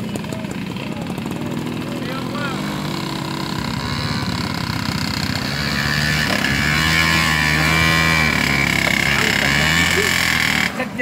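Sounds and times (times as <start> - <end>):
two-stroke motorcycle engines: 0.0 - 11.0.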